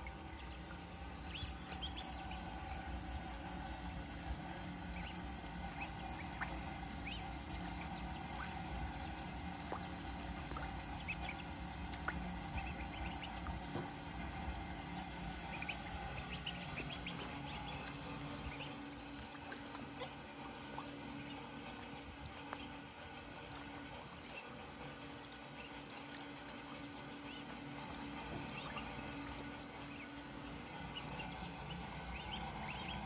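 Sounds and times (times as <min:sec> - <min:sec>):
ducklings peeping: 0:00.0 - 0:33.0
steady low hum: 0:00.0 - 0:33.0
water splashes and drips: 0:00.0 - 0:33.0.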